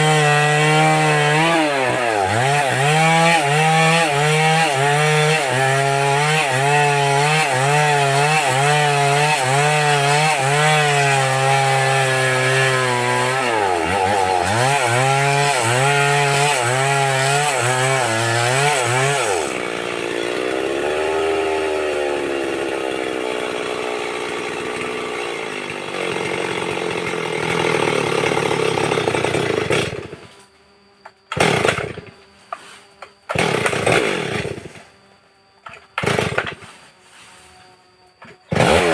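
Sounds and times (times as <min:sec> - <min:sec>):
chainsaw cutting wood: 0:00.0 - 0:34.9, 0:35.6 - 0:38.9.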